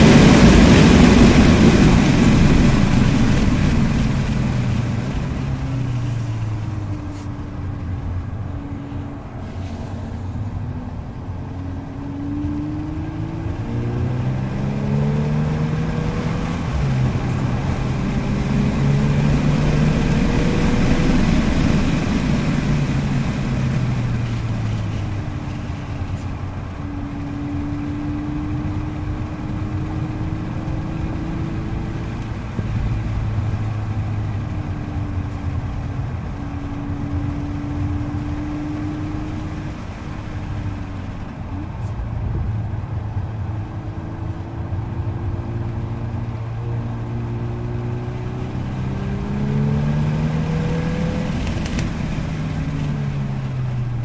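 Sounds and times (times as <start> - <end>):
car engine pulling: 0.0 - 54.0
tyre and road noise: 0.0 - 54.0.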